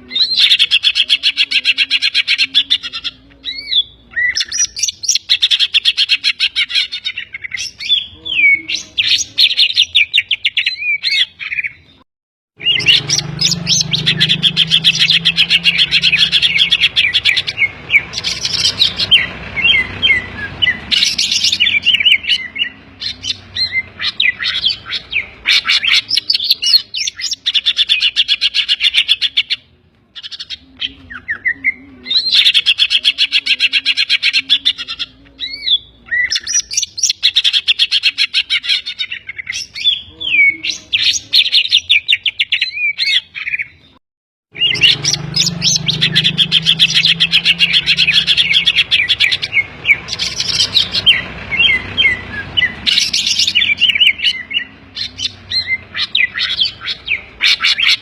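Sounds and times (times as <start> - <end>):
bird singing chattering song: 0.0 - 12.0, 12.6 - 58.0.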